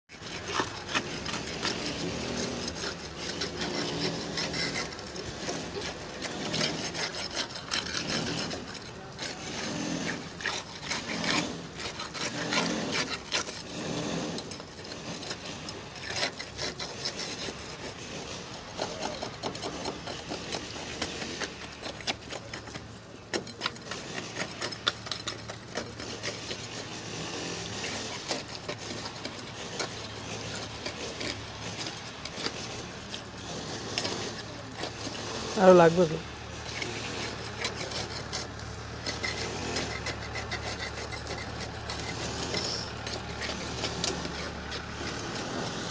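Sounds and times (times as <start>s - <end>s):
hand tools scraping concrete: 0.1s - 45.9s.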